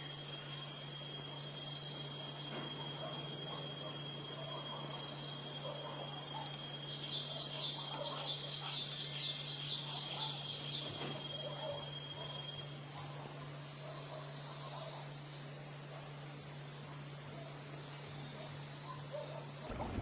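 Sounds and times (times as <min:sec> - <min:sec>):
high insect drone: 0:00.0 - 0:19.7.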